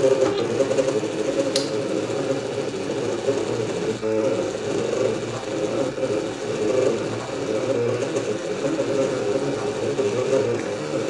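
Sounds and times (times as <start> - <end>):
printer stepper motors whirring: 0.0 - 11.0.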